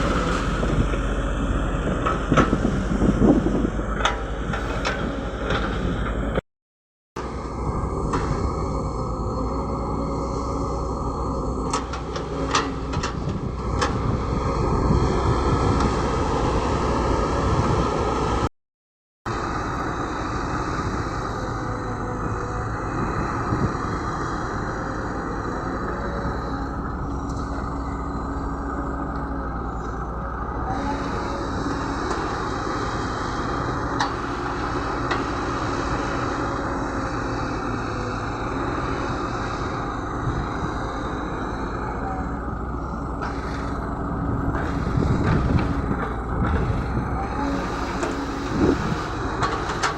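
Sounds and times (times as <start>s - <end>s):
diesel machinery engine drone: 0.0s - 6.4s, 7.2s - 18.5s, 19.3s - 49.9s.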